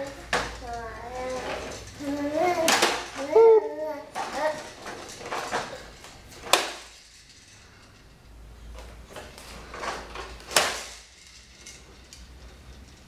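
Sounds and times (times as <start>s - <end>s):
baby walker rolling and rattling: 0.0s - 13.0s.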